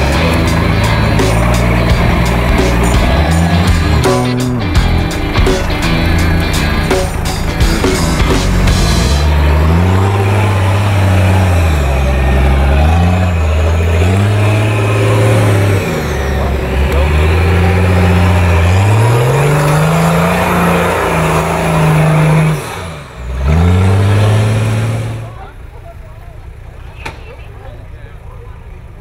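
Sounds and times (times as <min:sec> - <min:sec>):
truck engine revving hard: 0:00.0 - 0:25.8.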